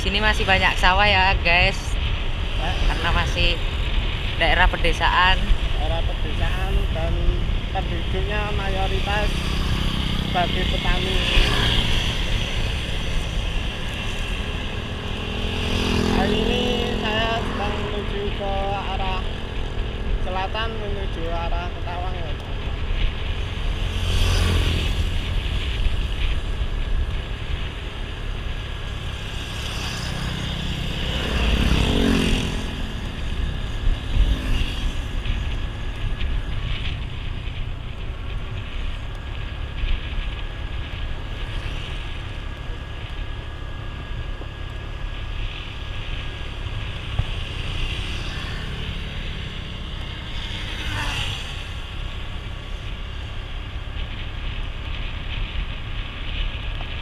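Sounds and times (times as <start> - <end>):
vehicle passing by: 0.0 - 38.0, 45.2 - 57.0
road and wind noise: 0.0 - 57.0.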